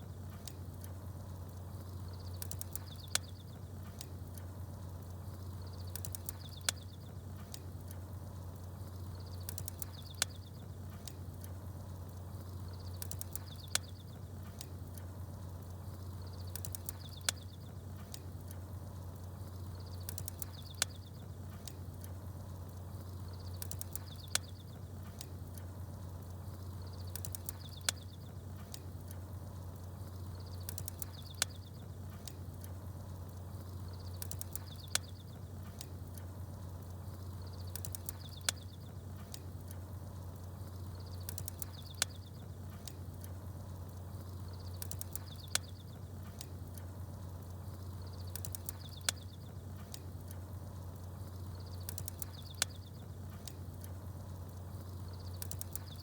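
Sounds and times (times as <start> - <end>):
campfire crackling and popping: 0.0 - 56.0
small birds chirping: 0.0 - 56.0.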